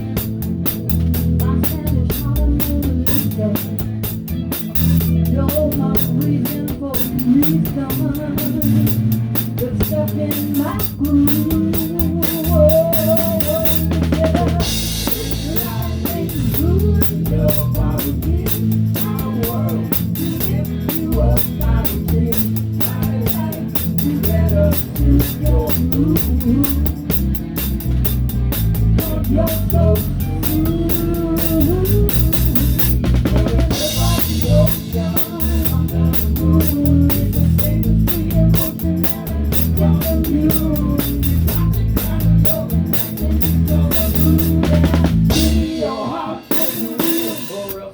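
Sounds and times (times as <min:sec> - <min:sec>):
drum kick and snare beat: 0:00.0 - 0:47.9
live rock band playing: 0:00.0 - 0:47.9.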